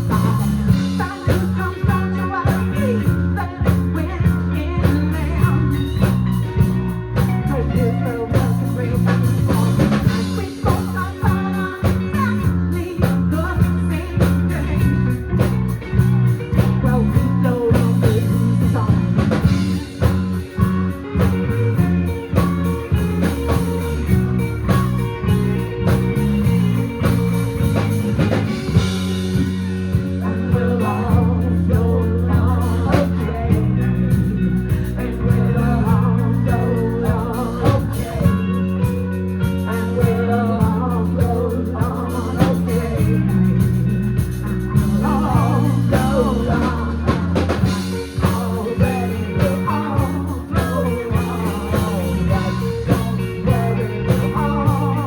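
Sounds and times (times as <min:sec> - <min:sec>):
person singing: 0:00.0 - 0:06.6, 0:07.2 - 0:55.0
bass guitar: 0:00.0 - 0:55.0
drum kit beat: 0:00.0 - 0:55.0
electric guitars: 0:00.0 - 0:55.0.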